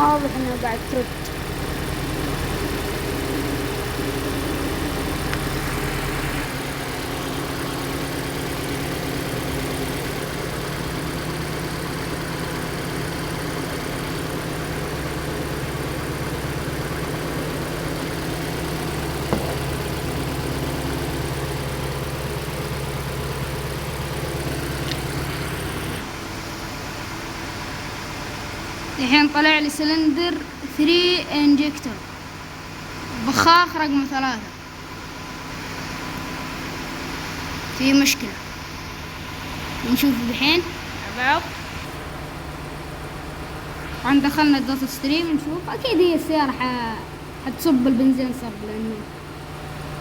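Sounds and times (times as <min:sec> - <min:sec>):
petrol engine idling roughly: 0:00.0 - 0:50.0.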